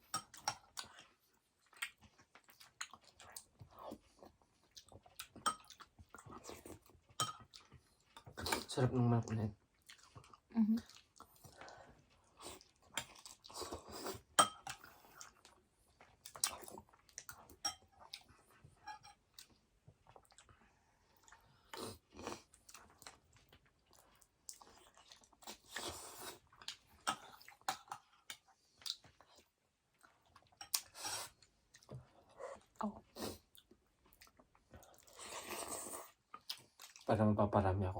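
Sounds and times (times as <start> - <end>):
chewing and crunching: 0.0 - 8.8, 9.6 - 37.1.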